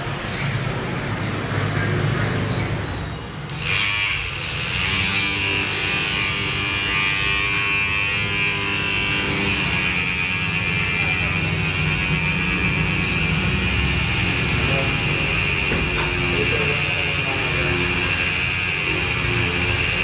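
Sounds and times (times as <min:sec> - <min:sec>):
electric massager motor buzzing: 0:03.5 - 0:20.0.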